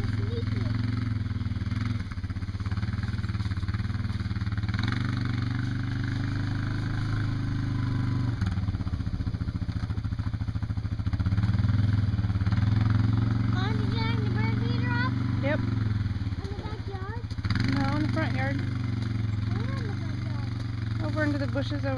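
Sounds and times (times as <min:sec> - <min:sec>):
small engine droning: 0:00.0 - 0:21.9.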